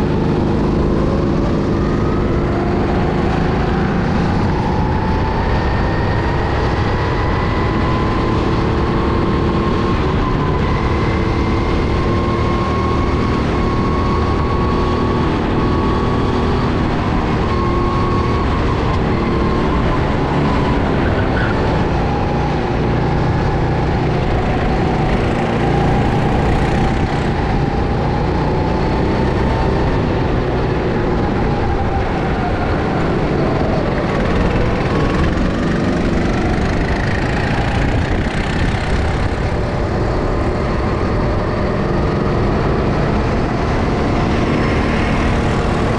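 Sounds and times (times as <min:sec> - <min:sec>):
go-kart engine revving: 0:00.0 - 0:45.9
wind rumble on microphone: 0:00.0 - 0:45.9.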